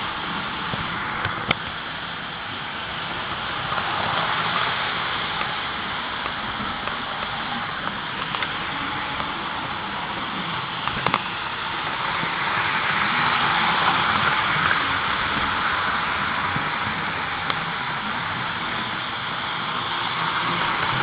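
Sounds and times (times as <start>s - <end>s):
model train rumbling on track: 0.0s - 21.0s.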